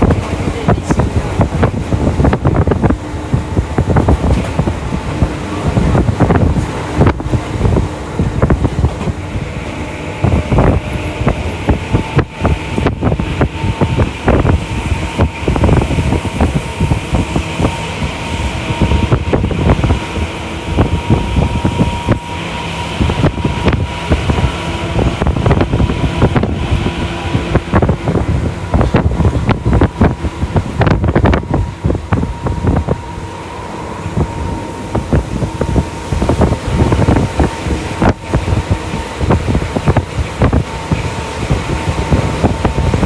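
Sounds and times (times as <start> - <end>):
steady hum: 0.0 - 43.0
train wheel-on-rail rumble: 0.0 - 43.0.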